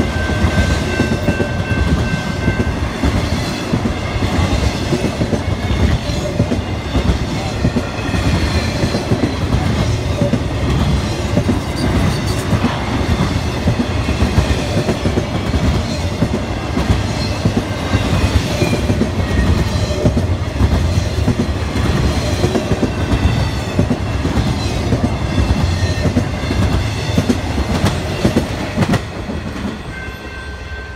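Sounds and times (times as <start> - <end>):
train wheels clickety-clack: 0.0 - 30.2.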